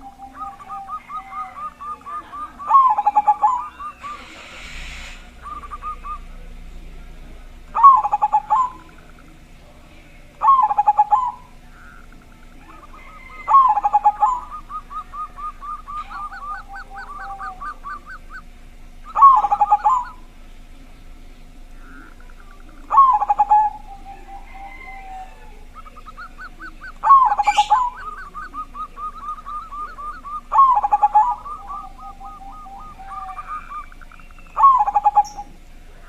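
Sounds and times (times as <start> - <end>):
dove cooing: 0.0 - 36.0
rapid repeated cooing notes: 0.0 - 36.0.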